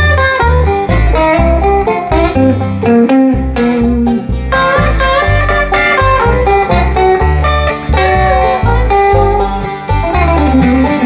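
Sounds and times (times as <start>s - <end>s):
acoustic guitar picking: 0.0s - 11.0s
banjo picking: 0.0s - 11.0s
upright bass: 0.0s - 11.0s.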